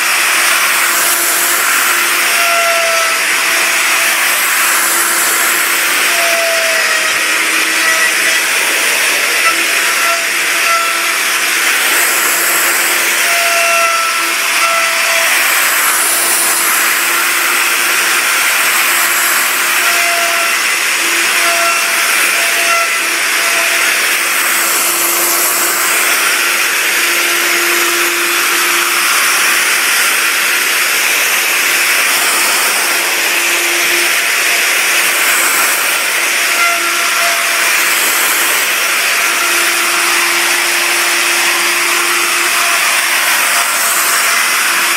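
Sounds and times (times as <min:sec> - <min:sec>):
router cutting wood: 0:00.0 - 0:44.9.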